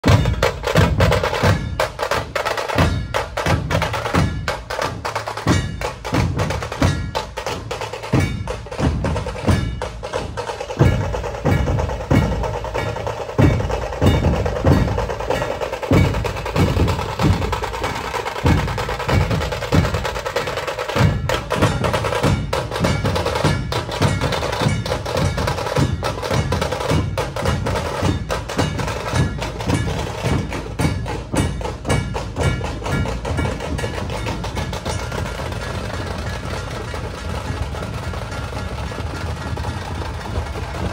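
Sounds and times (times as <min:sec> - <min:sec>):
dhol drums beating: 0:00.0 - 0:40.9
rapid roll on tasha drums: 0:00.0 - 0:40.9.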